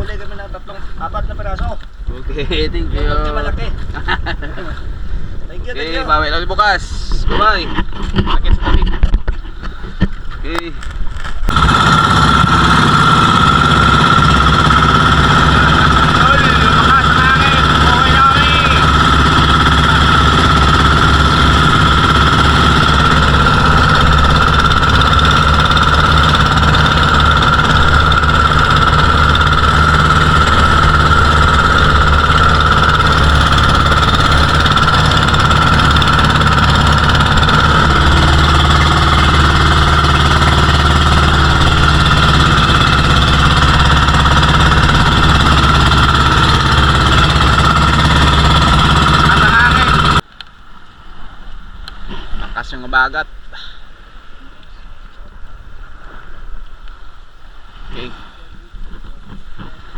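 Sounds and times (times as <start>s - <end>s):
boat engine running: 0.0s - 50.3s.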